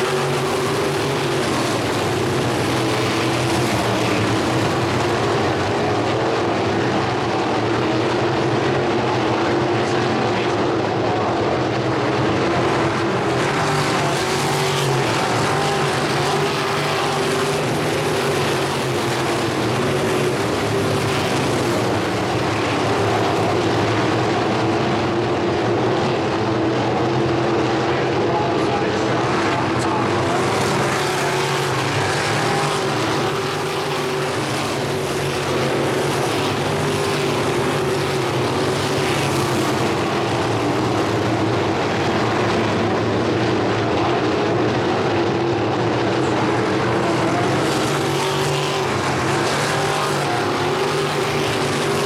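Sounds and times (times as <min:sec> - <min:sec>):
race car engines roaring: 0:00.0 - 0:52.0.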